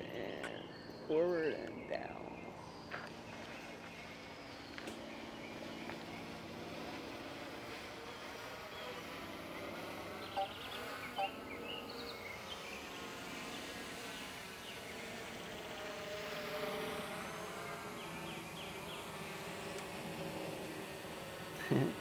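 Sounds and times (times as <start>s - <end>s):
drone propellers buzzing: 0.0s - 1.8s, 2.5s - 22.0s.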